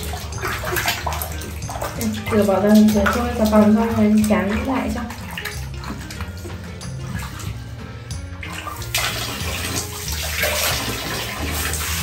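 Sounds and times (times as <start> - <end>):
hand splashing water in basin: 0.0 - 12.0
shower stream pouring into water: 0.0 - 12.0.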